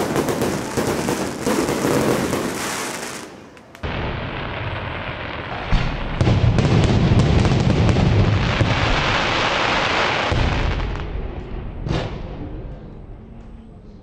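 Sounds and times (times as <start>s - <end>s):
fireworks bangs and crackling: 0.0s - 12.7s.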